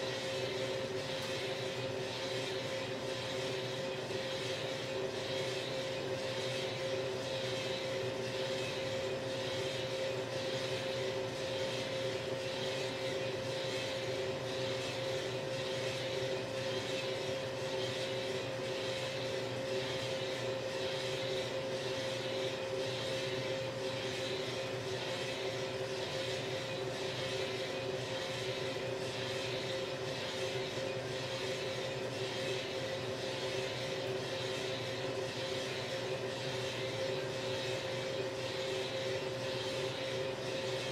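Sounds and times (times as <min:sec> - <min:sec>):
coffee roaster humming: 0:00.0 - 0:40.9.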